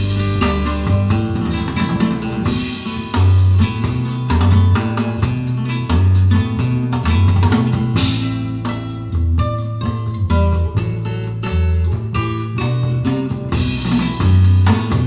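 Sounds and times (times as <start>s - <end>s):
deep bass line: 0.0s - 15.0s
plucked guitar music: 0.0s - 15.0s.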